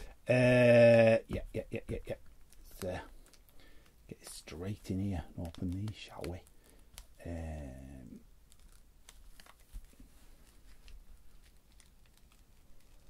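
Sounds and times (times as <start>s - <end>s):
wrapper crinkling: 2.3s - 13.0s.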